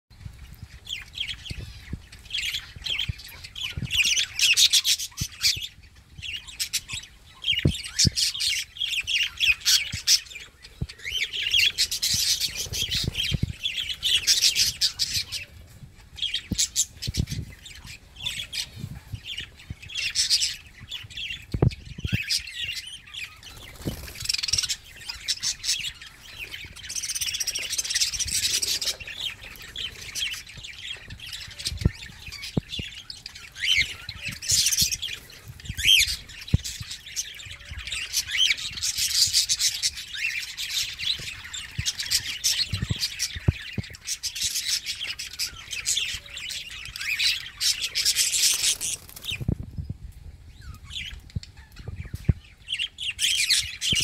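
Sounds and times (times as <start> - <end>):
budgerigars chattering: 0.9 - 15.6, 16.2 - 49.4.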